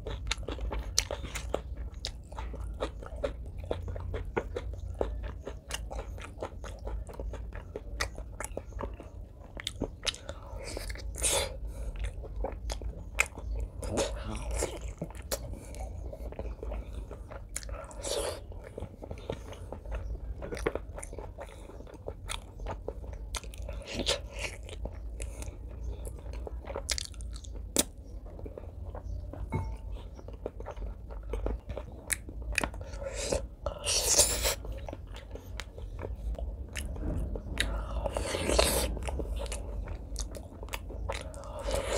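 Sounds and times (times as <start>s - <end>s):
person chewing wetly: 0.0s - 41.9s.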